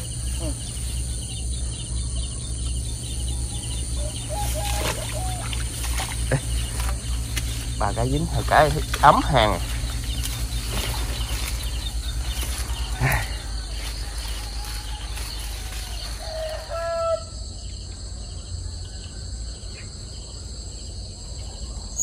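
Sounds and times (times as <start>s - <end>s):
low rumble: 0.0s - 18.8s
crickets chirring: 0.0s - 22.0s.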